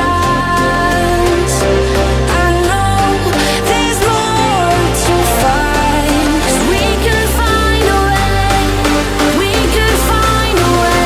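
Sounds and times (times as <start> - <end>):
background pop music: 0.0 - 11.0.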